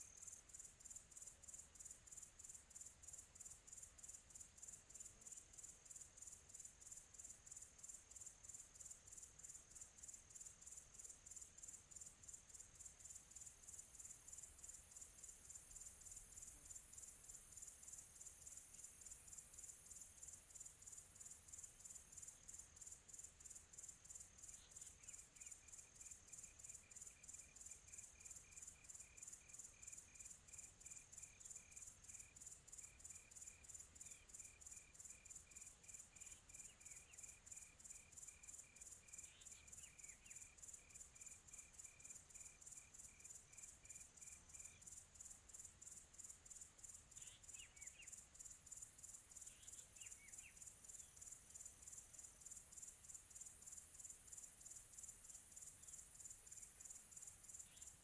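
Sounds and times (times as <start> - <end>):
crickets chirping high-pitched: 0.0 - 58.0.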